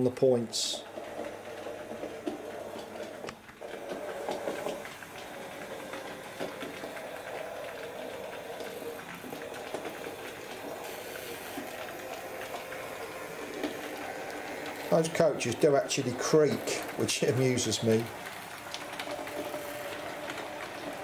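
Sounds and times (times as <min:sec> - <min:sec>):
coaches creaking: 0:00.0 - 0:21.0
wheels clicking over rail joints: 0:00.0 - 0:21.0
model train whirring hum: 0:00.6 - 0:21.0.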